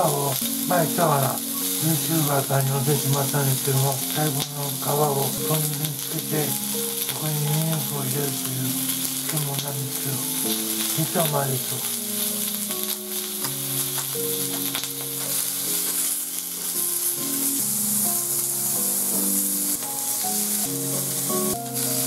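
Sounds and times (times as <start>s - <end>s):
meat sizzling on a grill plate: 0.0s - 22.0s
soft background melody: 0.0s - 22.0s.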